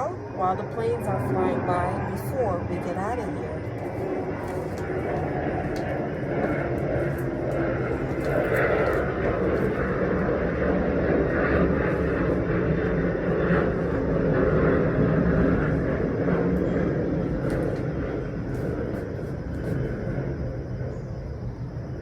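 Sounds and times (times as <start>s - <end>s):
airplane engine rumble: 0.0s - 22.0s.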